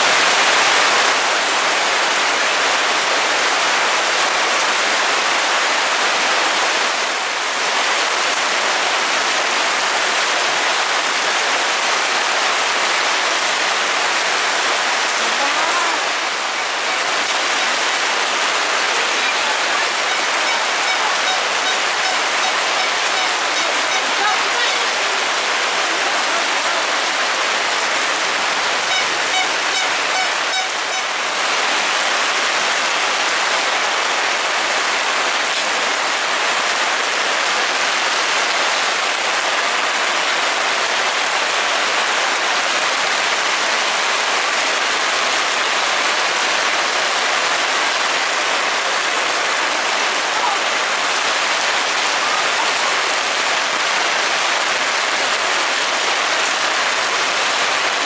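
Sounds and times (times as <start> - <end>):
rain on tarpaulin canopies: 0.0 - 58.0.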